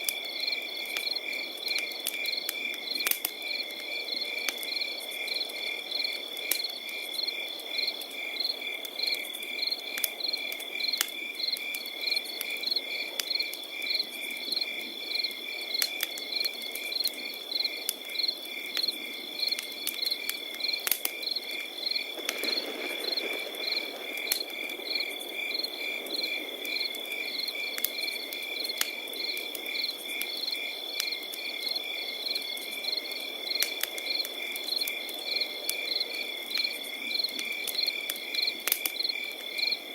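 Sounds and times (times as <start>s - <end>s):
campfire crackling: 0.0s - 39.9s
crickets chirping: 0.1s - 39.9s.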